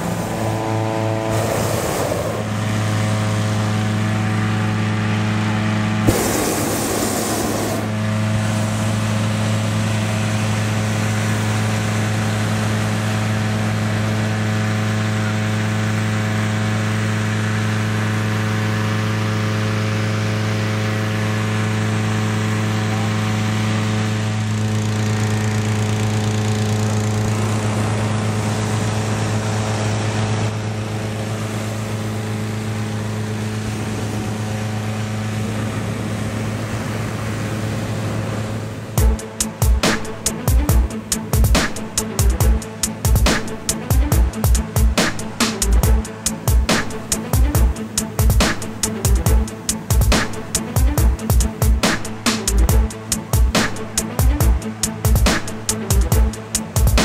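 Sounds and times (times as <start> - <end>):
engine-driven fan running: 0.0 - 57.0.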